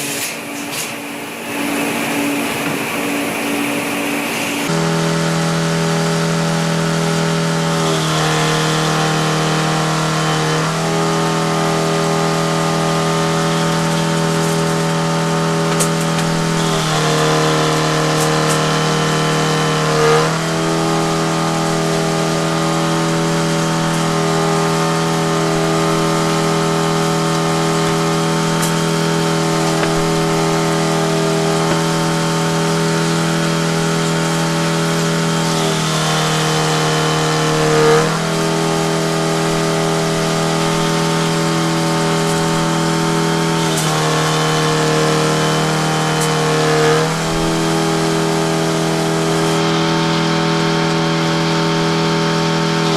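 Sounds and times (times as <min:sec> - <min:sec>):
engine running under power: 0:00.0 - 0:52.9.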